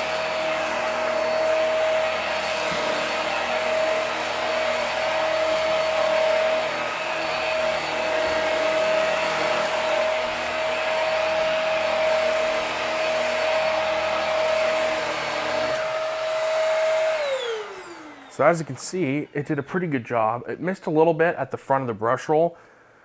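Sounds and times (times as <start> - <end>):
upright vacuum on carpet: 0.0 - 21.0.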